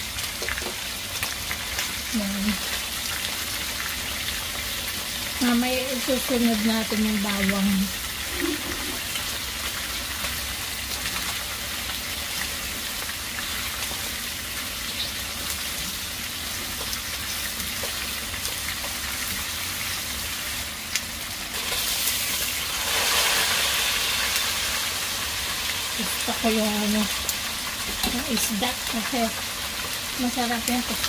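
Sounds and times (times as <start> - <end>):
chicken and onion sizzling in oil: 0.0 - 31.0.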